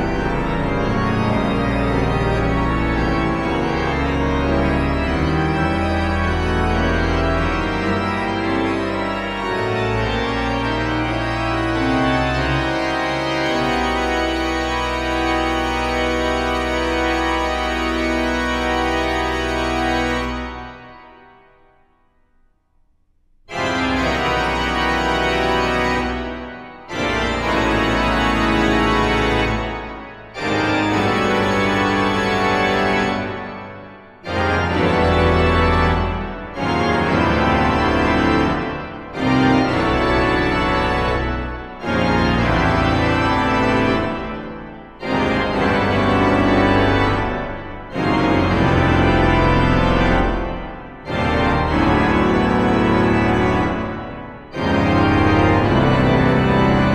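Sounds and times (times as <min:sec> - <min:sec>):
pipe organ playing chords: 0:00.0 - 0:21.8, 0:23.5 - 0:56.9.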